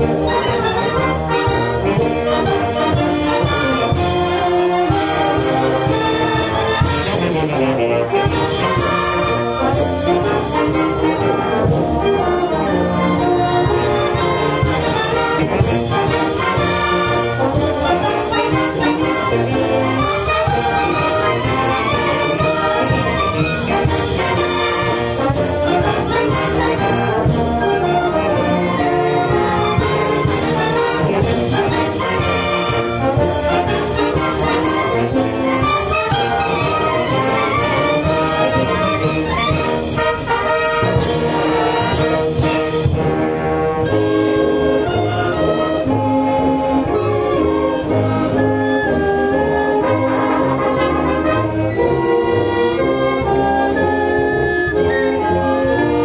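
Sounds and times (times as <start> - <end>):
wind band playing a march: 0.0 - 56.0.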